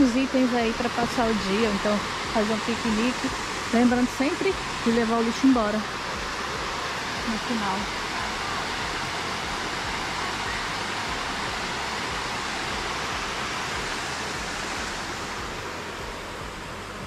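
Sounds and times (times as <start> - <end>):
waterfall pouring into pool: 0.0 - 17.0.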